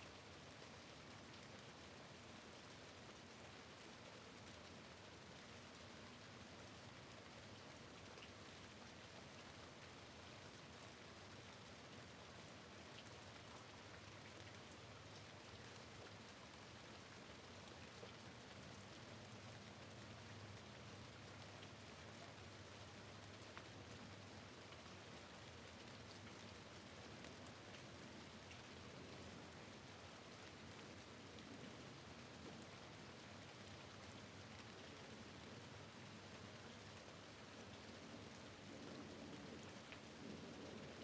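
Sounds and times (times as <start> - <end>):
rain at a window: 0.0 - 41.0.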